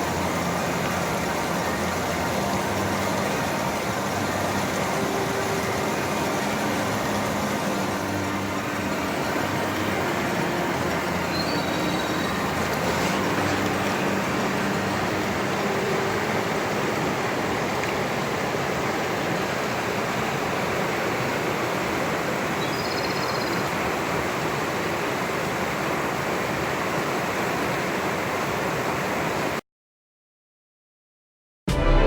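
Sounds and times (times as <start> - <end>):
mountain stream rushing: 0.0 - 29.6.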